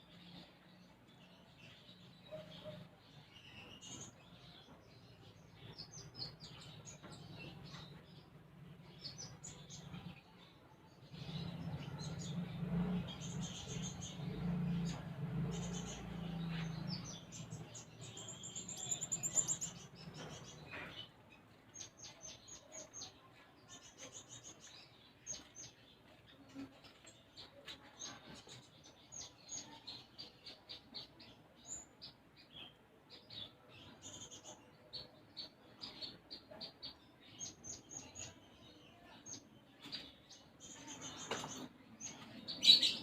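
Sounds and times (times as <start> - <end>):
songbird chirping: 0.0 - 43.0.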